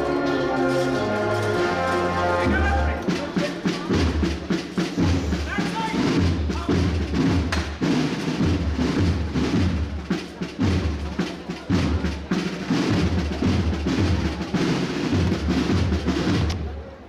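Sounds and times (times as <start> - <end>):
snare drum strokes and rolls: 0.0 - 16.8.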